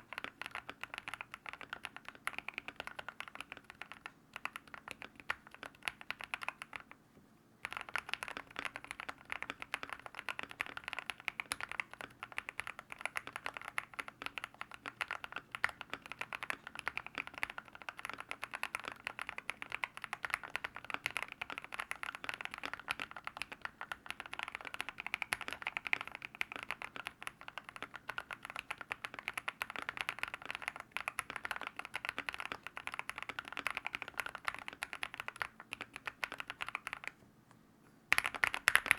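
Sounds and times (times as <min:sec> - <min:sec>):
mechanical keyboard typing: 0:00.0 - 0:07.0, 0:07.6 - 0:37.2, 0:38.1 - 0:38.9.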